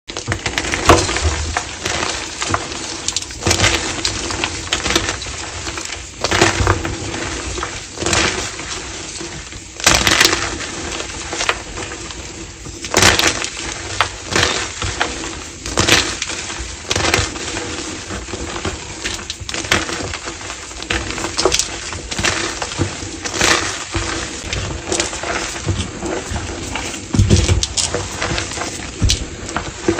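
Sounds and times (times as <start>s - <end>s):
chalk crunching and crackling: 0.1s - 29.9s.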